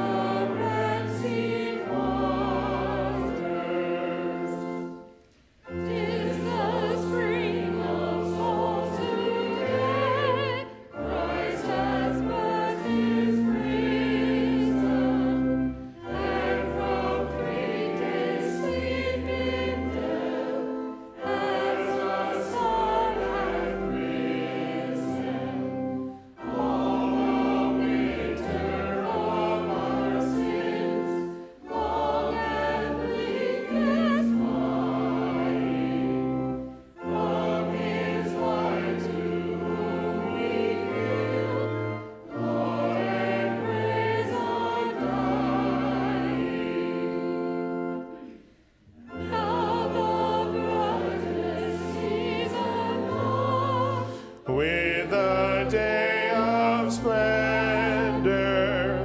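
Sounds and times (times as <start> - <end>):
choir and congregation singing a hymn: 0.0 - 59.0
keyboard accompaniment: 0.0 - 59.0.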